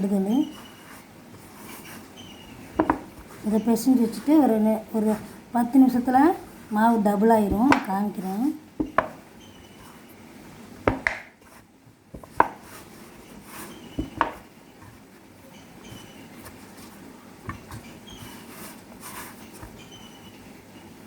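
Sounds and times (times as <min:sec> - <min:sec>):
dough being kneaded by hand: 0:00.0 - 0:21.0.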